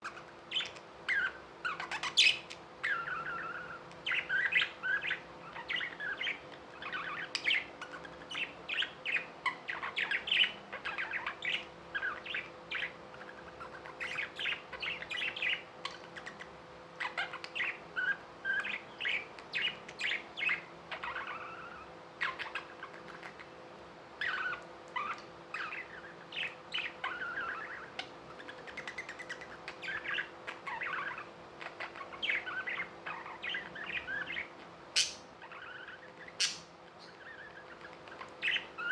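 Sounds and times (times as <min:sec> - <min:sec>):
budgerigars chirping and warbling: 0:00.0 - 0:23.6, 0:24.2 - 0:38.9.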